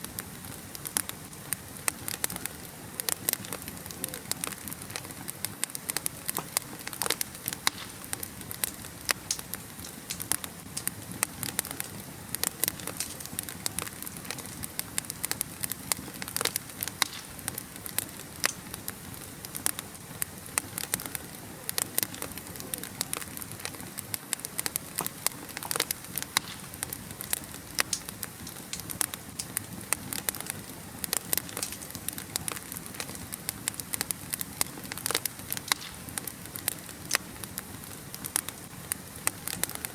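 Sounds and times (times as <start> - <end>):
fire hissing: 0.0 - 39.9
wood fire crackling: 0.0 - 39.9.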